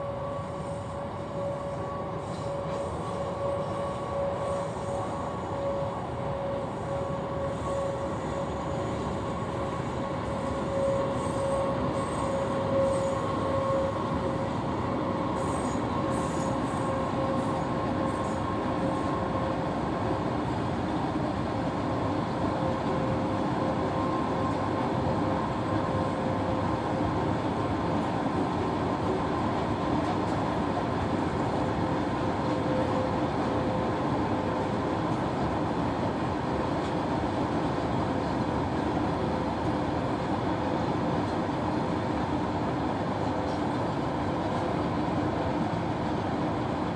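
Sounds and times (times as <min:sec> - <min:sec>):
rumble of freight wagons: 0:00.0 - 0:46.9.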